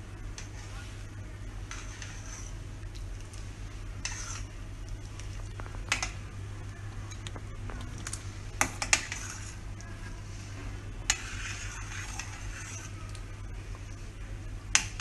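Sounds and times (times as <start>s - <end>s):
steady low hum: 0.0s - 15.0s
spoon stirring soup in pot: 1.6s - 15.0s.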